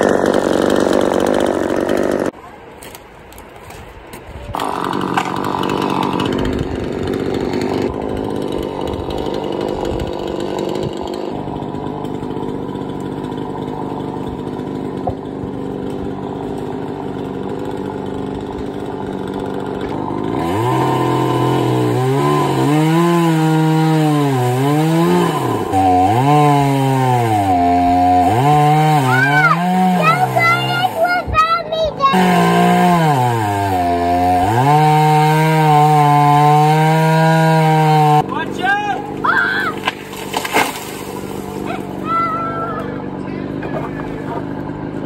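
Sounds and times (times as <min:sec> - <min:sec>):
chainsaw cutting tree: 0:00.0 - 0:03.0, 0:04.5 - 0:45.0.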